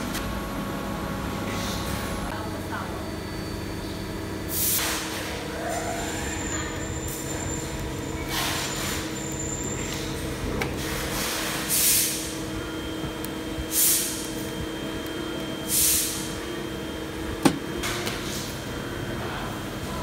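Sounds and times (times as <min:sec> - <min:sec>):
hydraulic press humming: 0:00.0 - 0:20.0.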